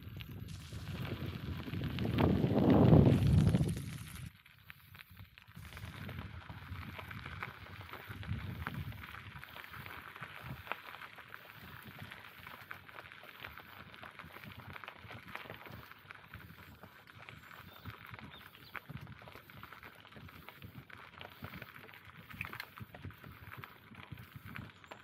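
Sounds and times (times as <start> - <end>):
wind rumble on microphone: 0.0 - 24.8
bicycle tyres crunching on path: 0.0 - 25.0.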